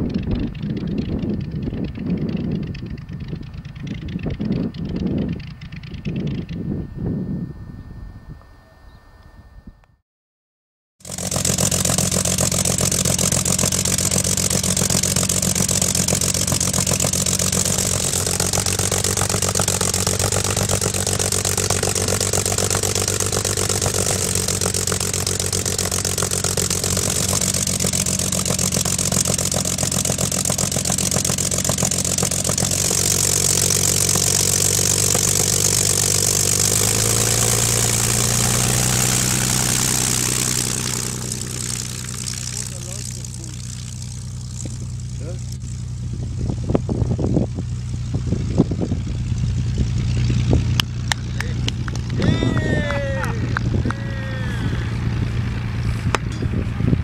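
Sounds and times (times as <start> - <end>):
aircraft engine and propeller running: 0.0 - 9.8, 11.0 - 57.0.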